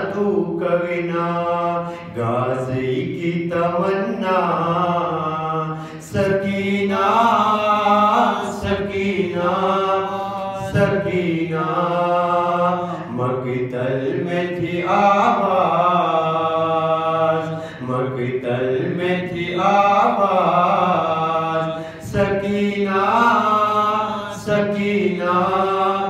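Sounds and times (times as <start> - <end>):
man chanting unaccompanied: 0.0 - 26.0.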